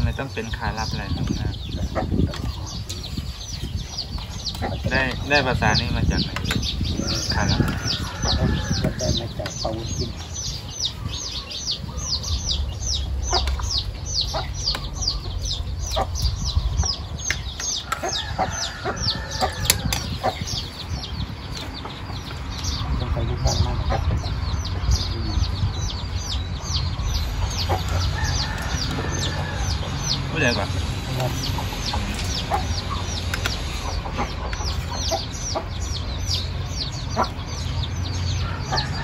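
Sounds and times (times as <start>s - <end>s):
bird peeping call: 0.0s - 39.0s.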